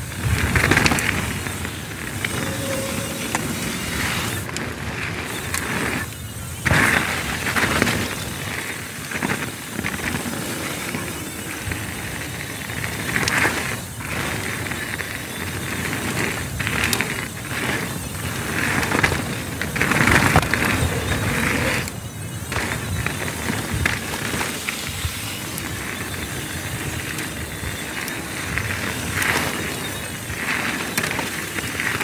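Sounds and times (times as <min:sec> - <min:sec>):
bike clicks and rattles: 0:00.0 - 0:32.0
bike tyres rushing on dirt: 0:00.0 - 0:32.0.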